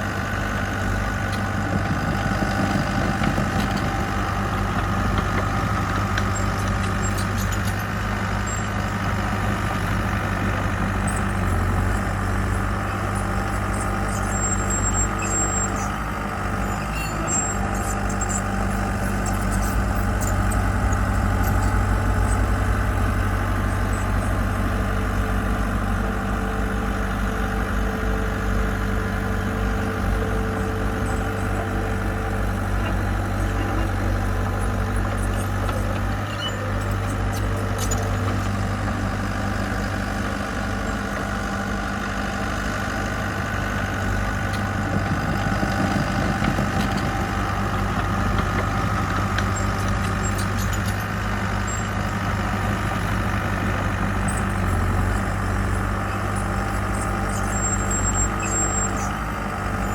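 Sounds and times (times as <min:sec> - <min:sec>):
heavy machinery diesel engine running: 0:00.0 - 0:59.9.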